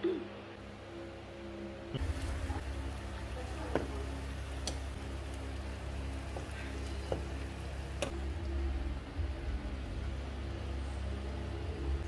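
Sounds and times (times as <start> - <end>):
water boiling in a pot: 2.0 - 12.0.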